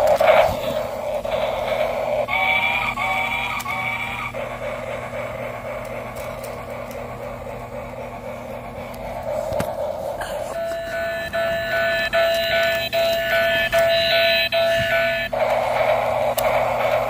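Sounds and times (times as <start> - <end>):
toy train whirring rumble: 0.0 - 17.0.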